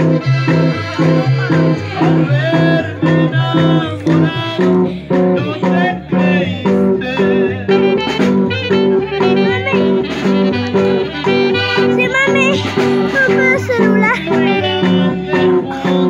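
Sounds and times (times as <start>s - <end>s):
accordion melody: 0.0s - 16.0s
pulsing bass line: 0.0s - 16.0s.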